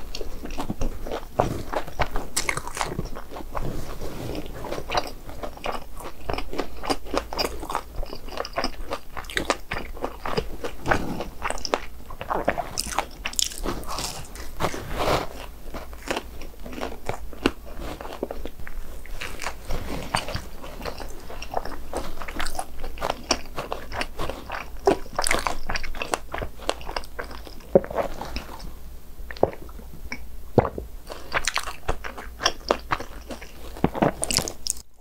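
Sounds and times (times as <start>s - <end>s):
person crunching crispy snacks: 0.1s - 3.7s, 4.3s - 28.6s, 31.1s - 35.0s.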